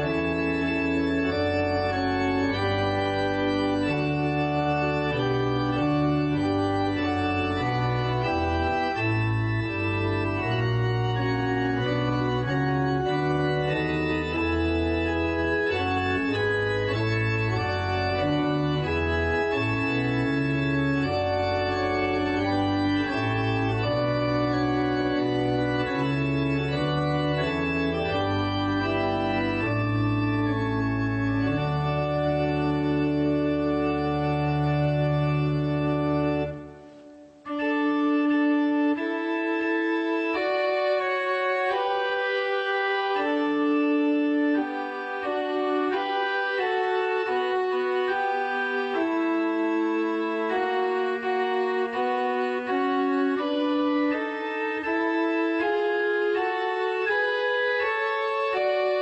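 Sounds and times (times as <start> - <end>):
electronic organ playing chords: 0.0 - 59.0.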